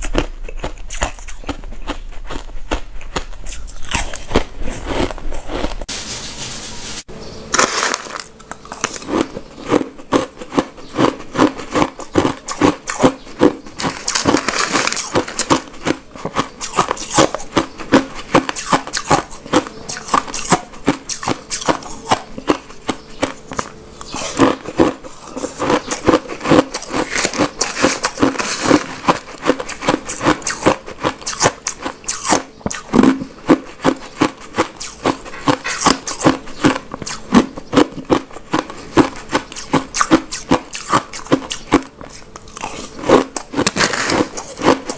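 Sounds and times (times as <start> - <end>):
crushed ice crunching between teeth: 0.0 - 5.9, 7.5 - 44.9.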